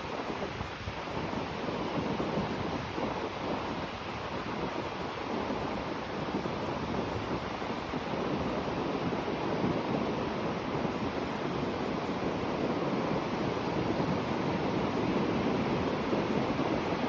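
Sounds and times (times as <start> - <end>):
sea waves breaking on shore: 0.0 - 17.0
wind on microphone: 0.0 - 17.0.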